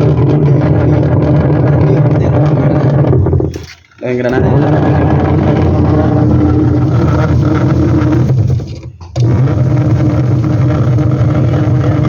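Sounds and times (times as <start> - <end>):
washing machine gears grinding: 0.0 - 12.0.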